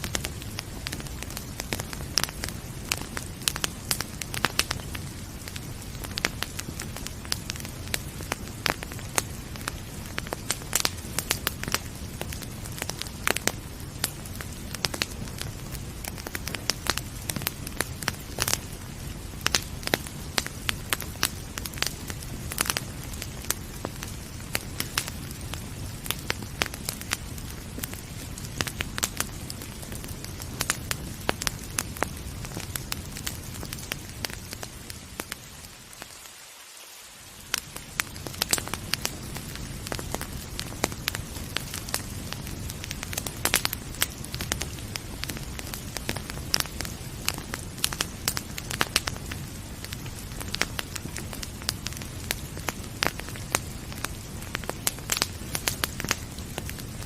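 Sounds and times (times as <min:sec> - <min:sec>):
wood fire crackling and popping: 0:00.0 - 0:36.2, 0:37.4 - 0:57.0
rain hiss: 0:00.0 - 0:57.0.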